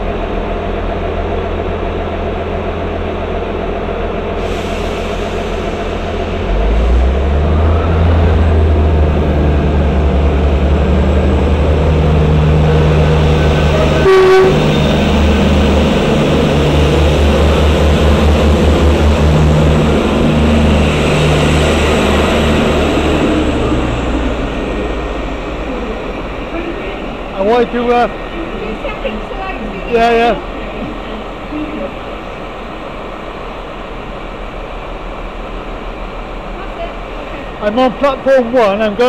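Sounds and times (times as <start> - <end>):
diesel train engines rumbling: 0.0 - 39.0.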